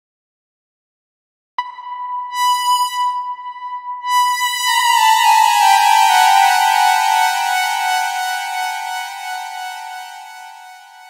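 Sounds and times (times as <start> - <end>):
synthesizer high note: 1.6 - 11.0.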